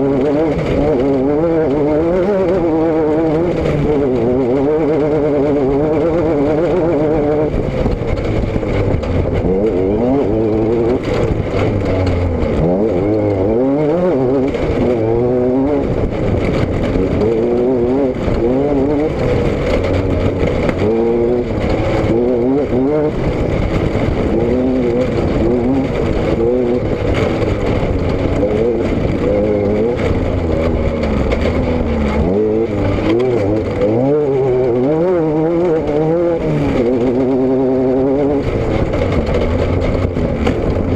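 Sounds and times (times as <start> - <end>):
car engine accelerating: 0.0 - 40.9
road and wind noise: 0.0 - 40.9.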